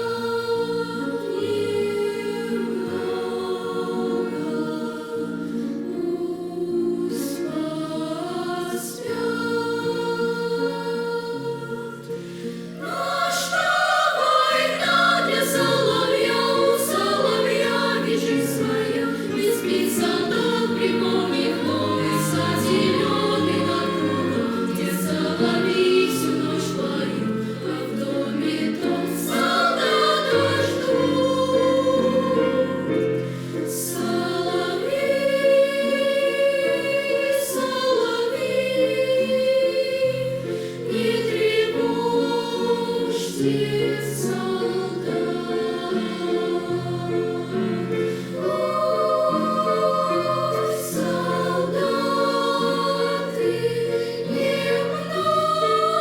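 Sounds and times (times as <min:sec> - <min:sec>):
children's choir singing: 0:00.0 - 0:56.0
piano accompaniment: 0:00.0 - 0:56.0.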